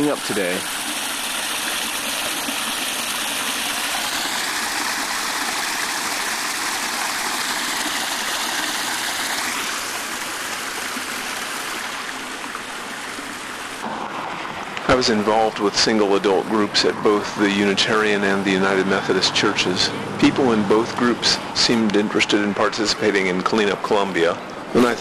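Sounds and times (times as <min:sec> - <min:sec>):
creek water over rocks: 0:00.0 - 0:25.0.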